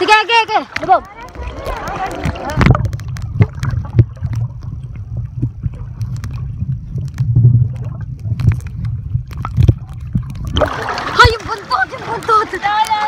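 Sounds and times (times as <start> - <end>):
underwater clicks and knocks: 0.7 - 11.4
muffled underwater rumble: 1.0 - 12.4.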